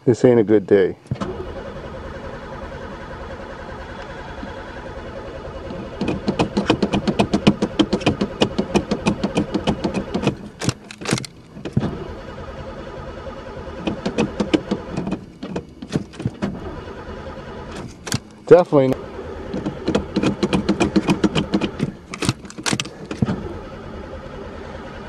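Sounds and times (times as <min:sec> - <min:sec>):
car engine cranking: 0:01.0 - 0:25.0.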